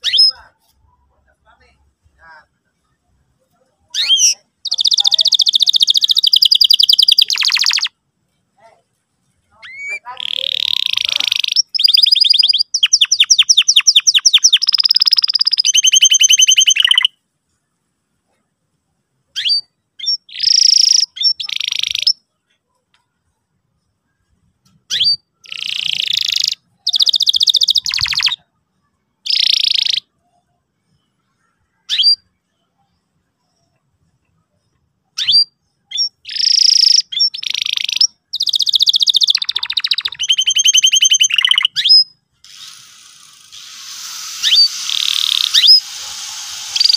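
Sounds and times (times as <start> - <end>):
canary singing chirps and trills: 0.0 - 8.0, 9.4 - 17.2, 19.3 - 46.9.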